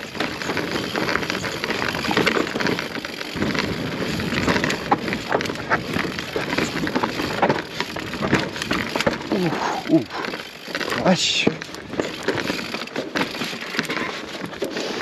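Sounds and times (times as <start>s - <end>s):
bike rattling: 0.0s - 15.0s
bike tyres crunching on stones: 0.0s - 15.0s.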